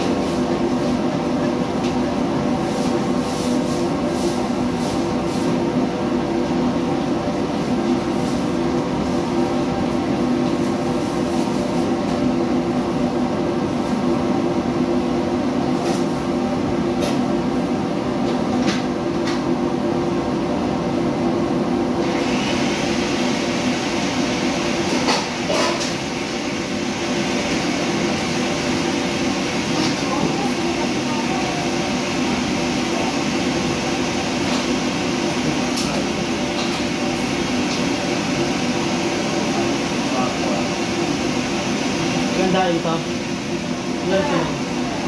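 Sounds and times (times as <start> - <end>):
kitchen extraction fan drone: 0.0 - 45.0.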